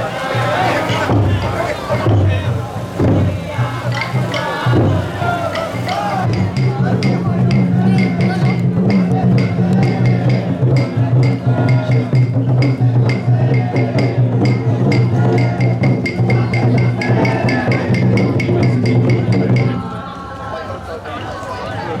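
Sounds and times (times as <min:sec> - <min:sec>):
festival drumming: 0:00.0 - 0:20.8
voices chanting: 0:00.0 - 0:22.0.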